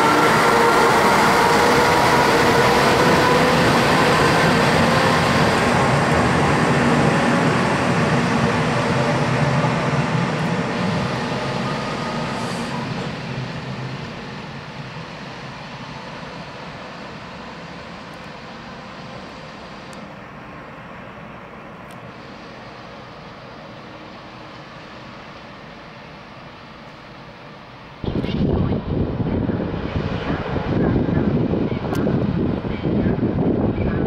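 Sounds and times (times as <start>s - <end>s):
diesel railcar engine accelerating: 0.0s - 34.0s.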